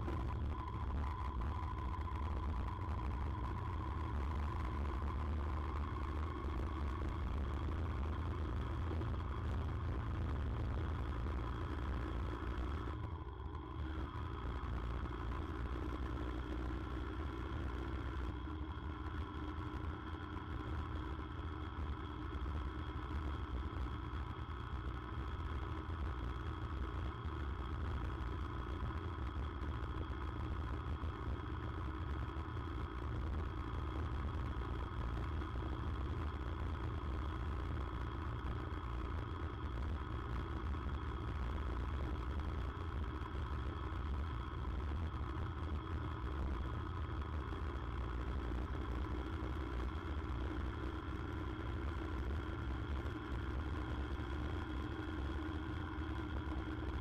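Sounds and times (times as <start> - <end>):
motorcycle engine drone: 0.0 - 57.0
road and wind noise: 0.0 - 57.0.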